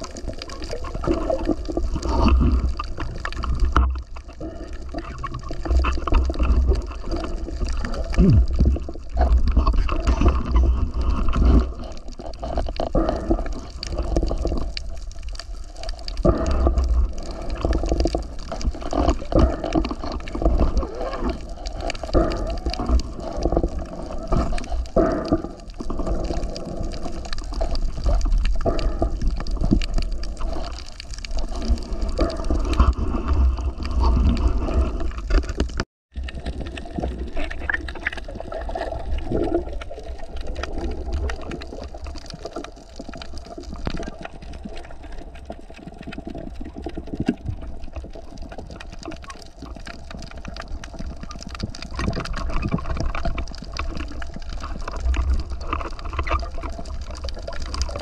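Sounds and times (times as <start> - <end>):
crackle of small clicks: 0.0 - 58.0
water sloshing and gurgling: 0.0 - 58.0.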